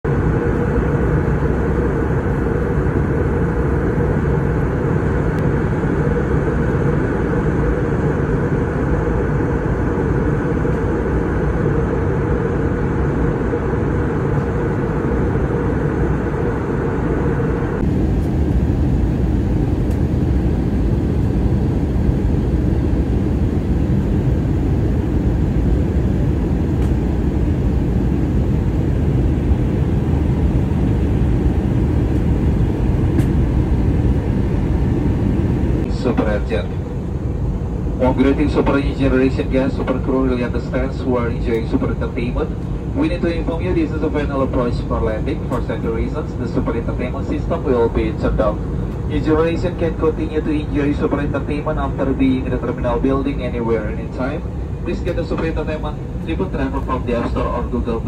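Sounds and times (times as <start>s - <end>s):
airliner cabin noise: 0.0s - 58.0s.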